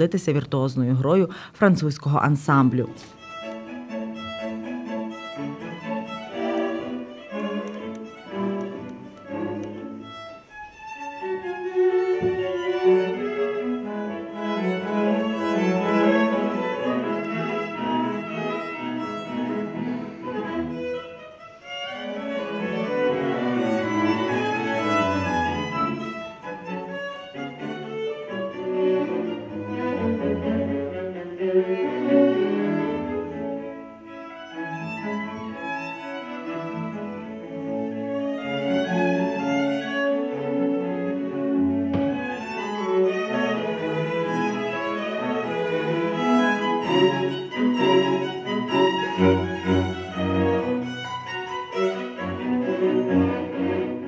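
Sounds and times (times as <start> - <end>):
low cello line: 2.0 - 54.0
string quartet playing: 2.0 - 54.0.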